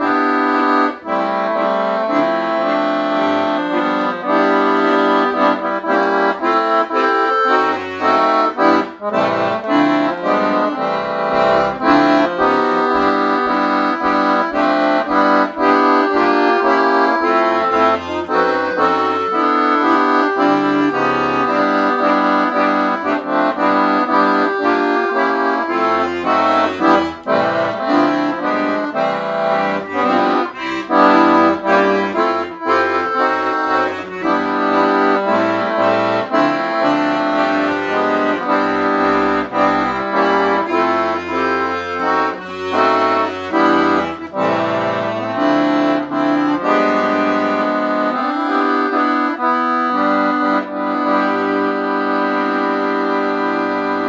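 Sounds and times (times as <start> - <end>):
piano accordion melody: 0.0 - 54.0.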